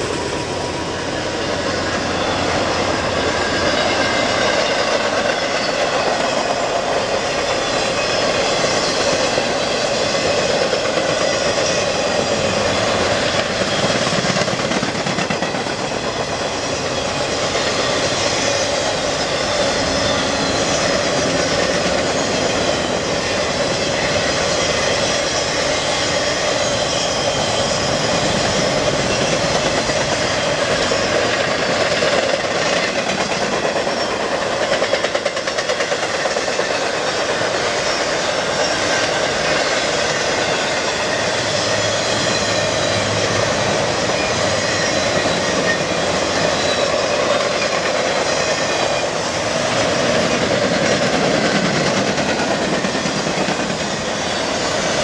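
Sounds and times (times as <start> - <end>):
freight train wheels on track: 0.0 - 55.0.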